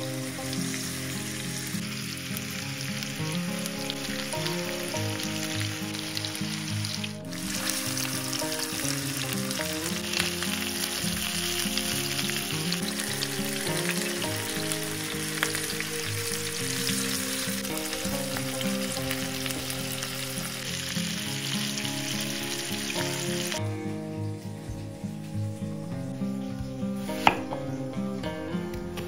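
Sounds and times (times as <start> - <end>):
chicken frying in hot oil: 0.0 - 23.6
background music: 0.0 - 29.0.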